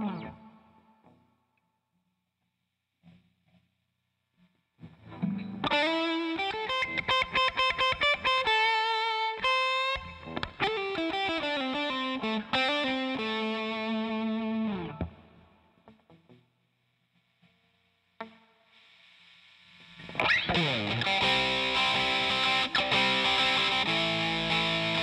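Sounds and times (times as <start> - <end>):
distorted electric guitar: 0.0 - 1.2, 4.4 - 16.4, 17.1 - 25.0.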